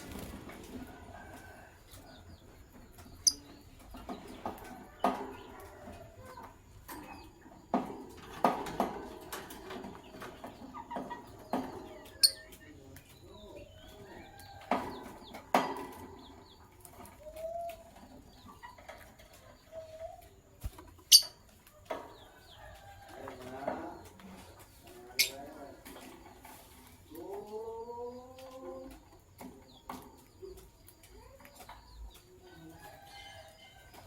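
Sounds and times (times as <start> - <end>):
lovebirds chirping: 0.0 - 7.8, 9.4 - 34.0.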